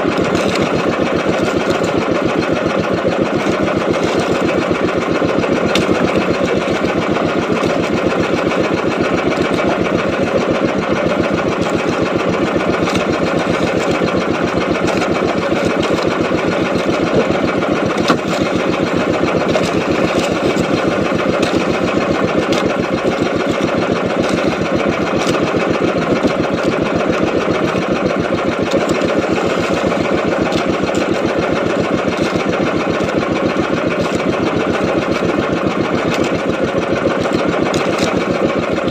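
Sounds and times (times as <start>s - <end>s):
small boat engine putter: 0.0s - 38.9s.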